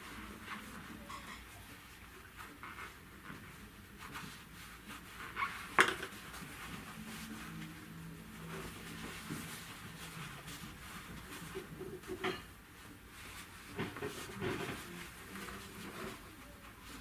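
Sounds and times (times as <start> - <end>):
velvet fabric rustling: 0.0 - 17.0.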